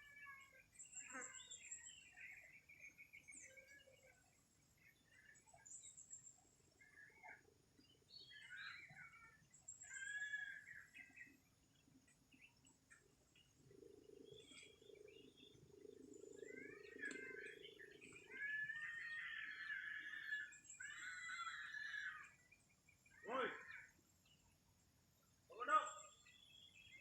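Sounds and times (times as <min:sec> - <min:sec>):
birds chirping and warbling: 0:00.0 - 0:27.0.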